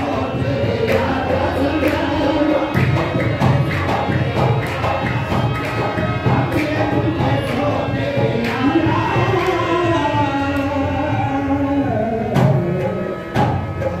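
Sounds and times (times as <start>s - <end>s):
hand drum beat: 0.0s - 11.3s.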